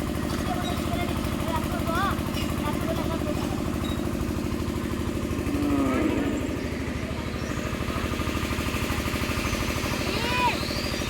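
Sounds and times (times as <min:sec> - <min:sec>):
engine running with fast pulse: 0:00.0 - 0:11.0.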